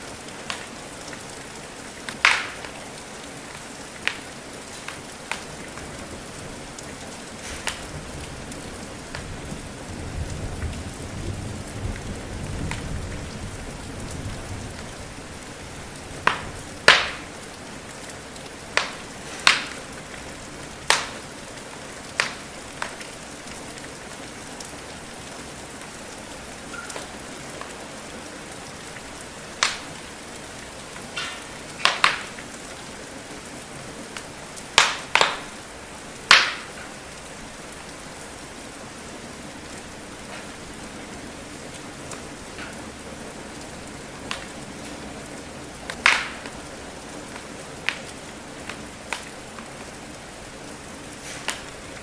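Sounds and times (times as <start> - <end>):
rain falling: 0.0 - 52.0
wood fire crackling: 0.0 - 52.0.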